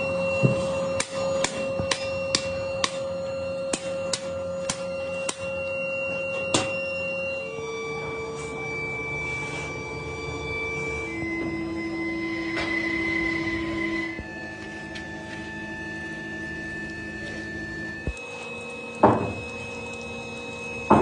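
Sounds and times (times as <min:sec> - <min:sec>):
steady held tones: 0:00.0 - 0:21.0.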